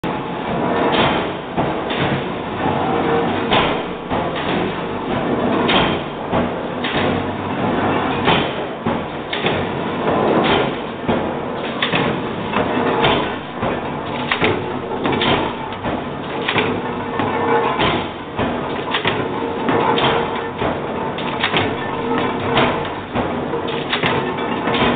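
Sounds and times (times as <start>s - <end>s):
steady machine noise: 0.0s - 24.9s
punch press clanking: 0.6s - 24.9s.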